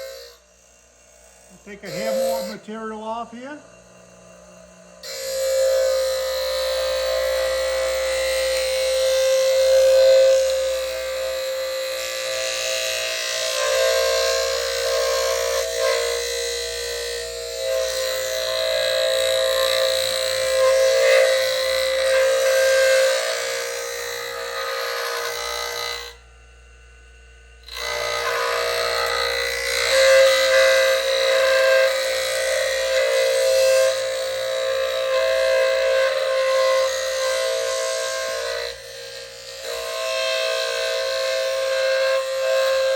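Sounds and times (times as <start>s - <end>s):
sharpener grinding blades: 0.0s - 26.2s, 27.7s - 42.9s.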